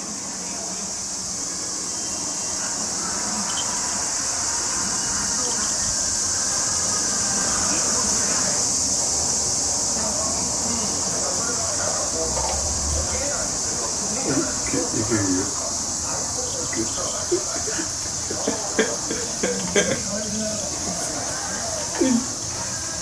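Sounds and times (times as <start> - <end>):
cicadas buzzing: 0.0 - 23.0.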